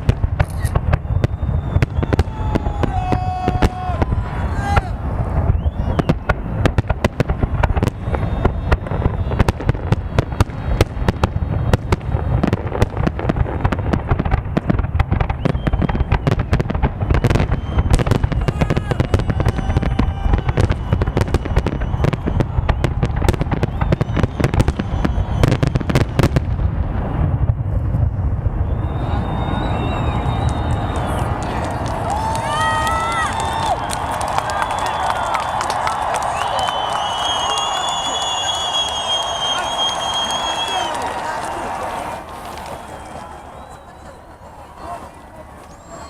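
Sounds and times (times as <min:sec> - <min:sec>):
fireworks cracks and bangs: 0:00.0 - 0:44.2.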